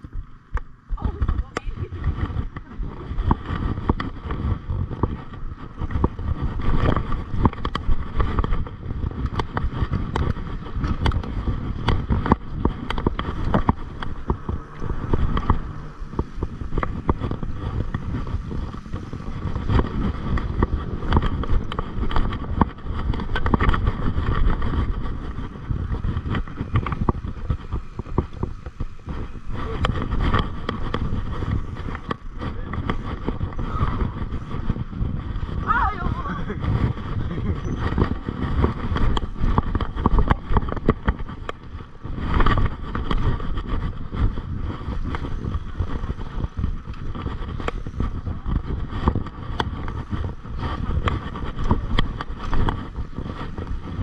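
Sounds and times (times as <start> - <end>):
air over microphone: 0.0 - 54.0
bike rattling over bumps: 0.0 - 54.0
bike tyres rumbling on trail: 0.0 - 54.0.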